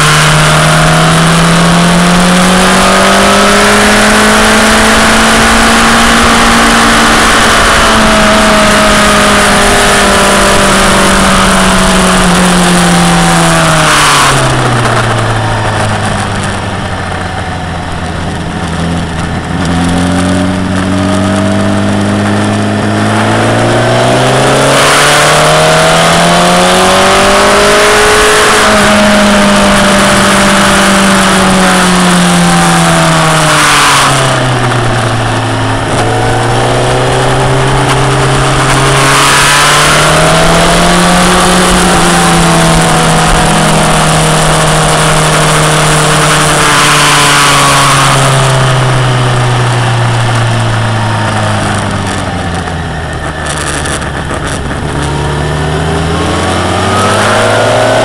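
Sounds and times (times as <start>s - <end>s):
motorcycle engine revving: 0.0s - 58.0s
rushing wind noise: 0.0s - 58.0s.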